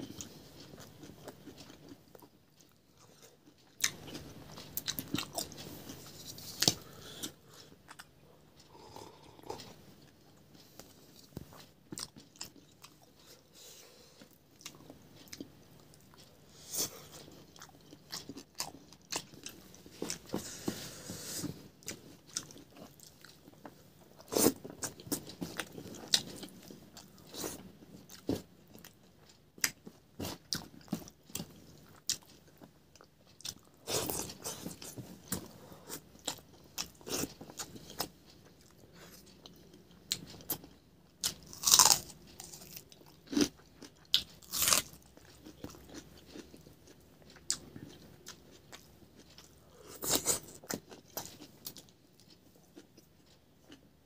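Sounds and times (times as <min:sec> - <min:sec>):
open-mouth chewing and crunching: 0:00.0 - 0:54.0.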